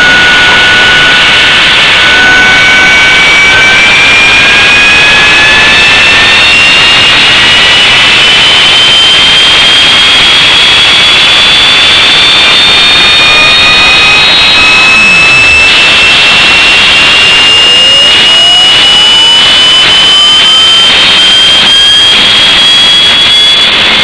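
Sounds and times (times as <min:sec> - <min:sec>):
jet engine roaring and whining: 0:00.0 - 0:24.0.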